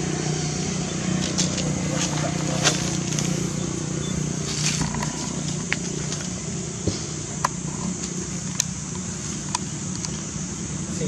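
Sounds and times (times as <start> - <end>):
high hiss: 0.0 - 11.0
steady low hum: 0.0 - 11.0.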